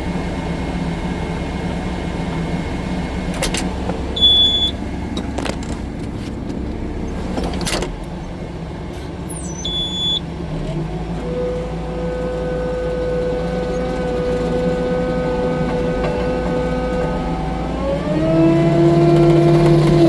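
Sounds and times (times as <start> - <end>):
diesel engine whining under load: 0.0 - 20.0.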